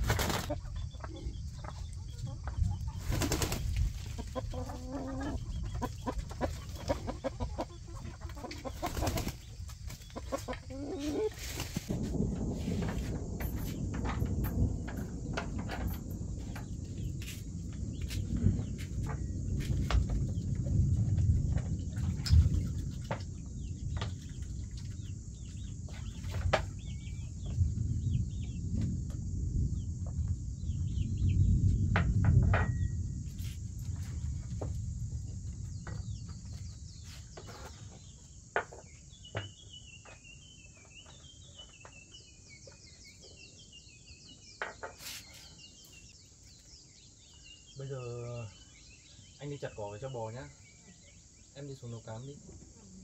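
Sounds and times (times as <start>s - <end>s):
birds chirping: 0.0s - 53.0s
insects droning: 0.0s - 53.0s.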